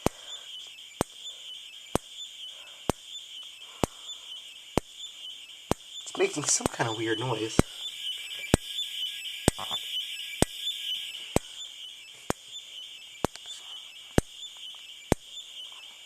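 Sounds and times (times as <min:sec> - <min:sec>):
strobe clicking: 0:00.0 - 0:16.0
high-pitched warbling whine: 0:00.4 - 0:16.0.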